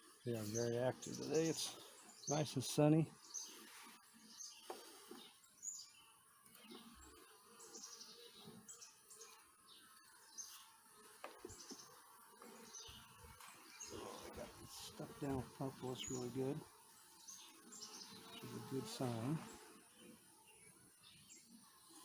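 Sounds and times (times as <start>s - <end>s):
faint songbird chirps: 0.0s - 22.0s.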